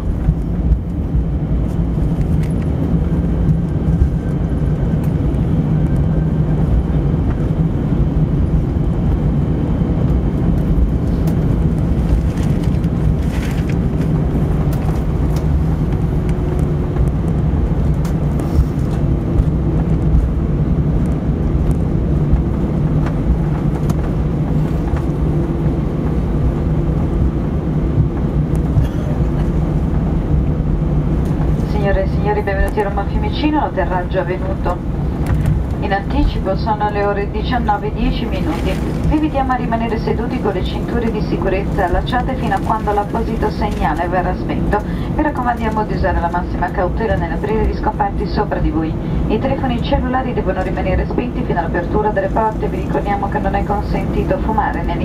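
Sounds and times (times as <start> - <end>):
airplane cabin rumble: 0.0 - 55.0
jet engines humming: 0.0 - 55.0.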